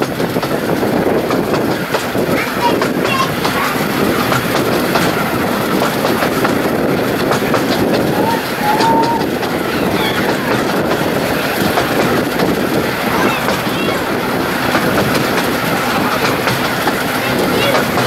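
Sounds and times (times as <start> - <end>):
train rumbling along track: 0.0 - 18.0
wheels clicking over rail joints: 0.0 - 18.0.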